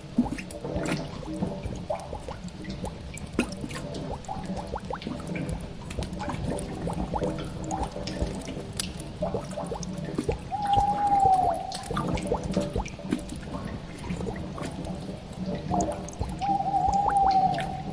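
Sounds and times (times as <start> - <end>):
low steady drone: 0.0 - 17.9
water dripping in cave: 0.0 - 17.9.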